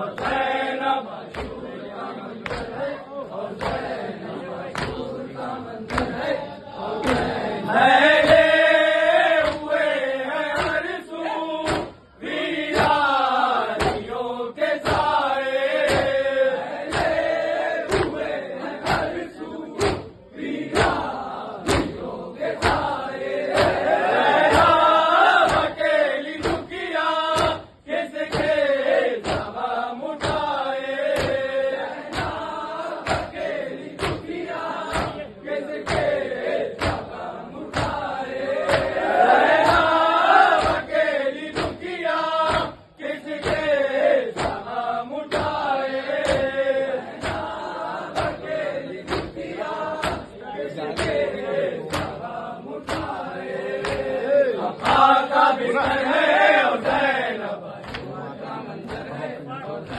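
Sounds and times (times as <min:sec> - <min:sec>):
men chanting a lament: 0:00.0 - 0:59.9
reciter leading chant: 0:00.0 - 0:59.9
hands slapping chests: 0:00.1 - 0:00.6, 0:01.3 - 0:01.7, 0:02.4 - 0:04.0, 0:04.6 - 0:05.2, 0:05.8 - 0:06.3, 0:07.0 - 0:07.4, 0:08.1 - 0:11.0, 0:11.6 - 0:29.6, 0:30.2 - 0:54.2, 0:54.8 - 0:56.1, 0:57.8 - 0:58.1.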